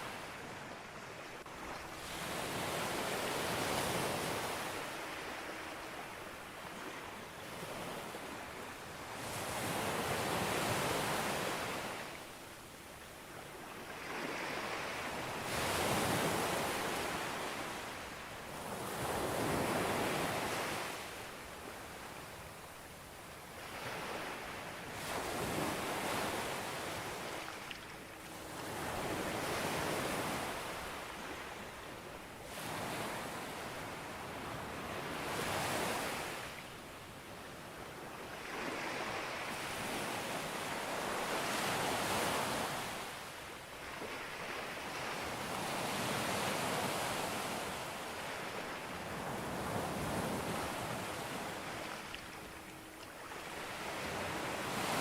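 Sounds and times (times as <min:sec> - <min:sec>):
ocean waves breaking on beach: 0:00.0 - 0:12.5, 0:13.2 - 0:22.8, 0:23.5 - 0:36.9, 0:37.6 - 0:55.0.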